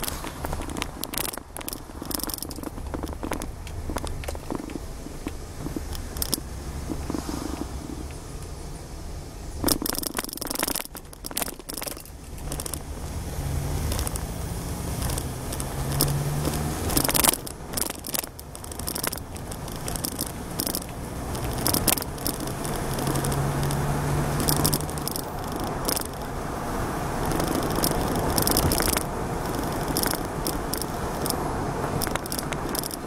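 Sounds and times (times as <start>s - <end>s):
rattles and knocks: 0.0s - 8.2s, 9.6s - 13.0s, 13.8s - 26.4s, 27.2s - 33.0s
car engine and road rumble: 0.0s - 33.0s.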